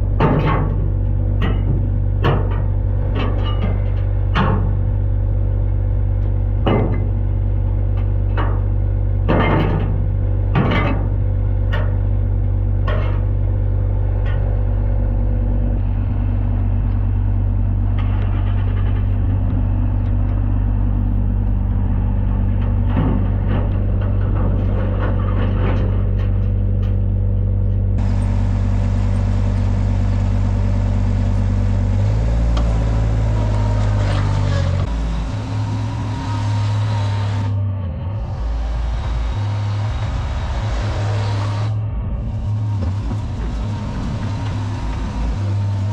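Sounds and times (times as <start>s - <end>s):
machine engine humming: 0.0s - 45.9s.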